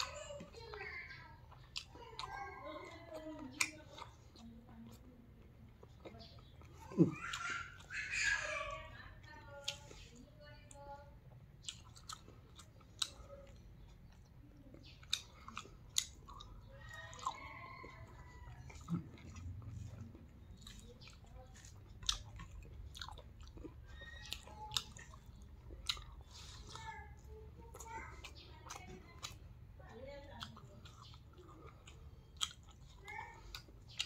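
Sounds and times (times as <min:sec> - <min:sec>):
chewing and mouth smacking: 0:00.0 - 0:34.0.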